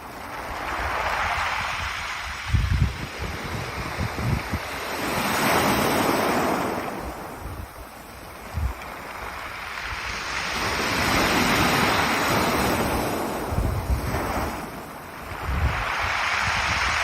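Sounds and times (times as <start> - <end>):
waves washing over pebbles: 0.0 - 17.0
wind thumps on microphone: 0.5 - 7.8, 8.4 - 17.0.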